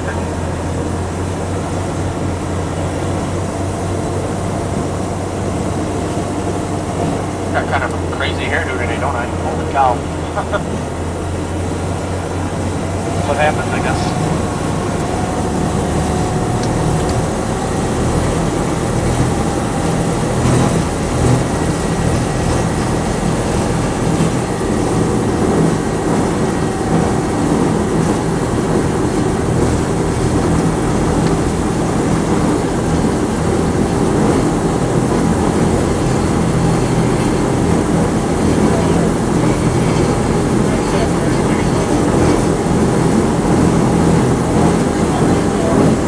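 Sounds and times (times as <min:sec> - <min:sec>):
boat engine running: 0:00.0 - 0:46.0
water rushing along hull: 0:00.0 - 0:46.0.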